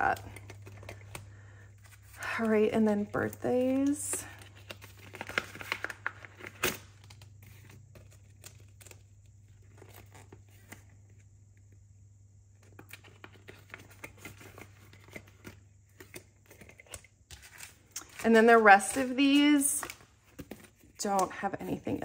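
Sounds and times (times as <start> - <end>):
paper envelopes rustling: 0.0 - 11.2, 12.6 - 22.0.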